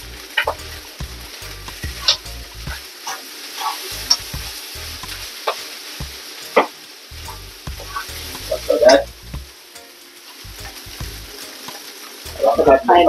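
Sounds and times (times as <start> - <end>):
rice sizzling in a frying pan: 0.0 - 13.0.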